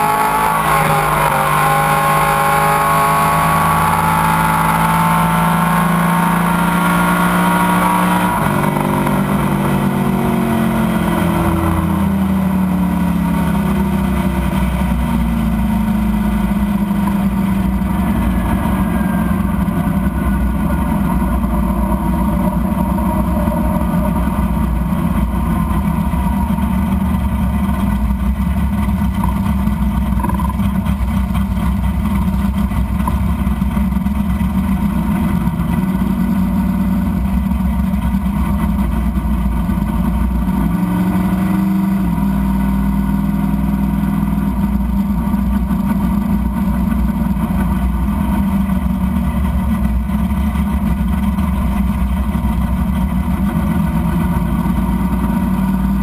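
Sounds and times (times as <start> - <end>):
car engine rumbling from cabin: 0.0 - 56.0.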